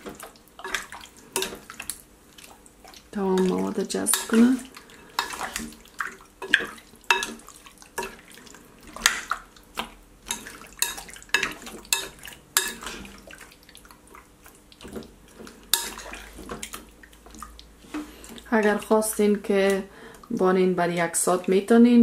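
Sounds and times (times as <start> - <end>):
meat squelching in marinade: 0.0 - 20.4.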